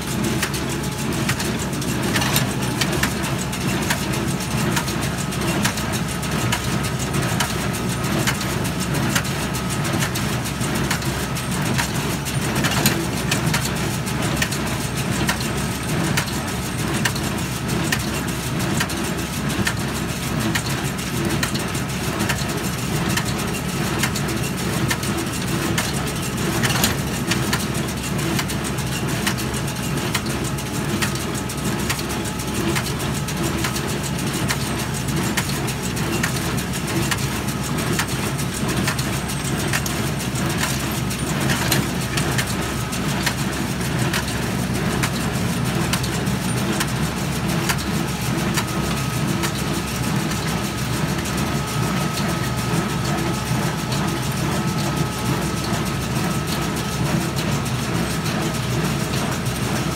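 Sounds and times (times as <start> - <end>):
baler machinery clattering: 0.0 - 59.9
tractor diesel engine running: 0.0 - 59.9.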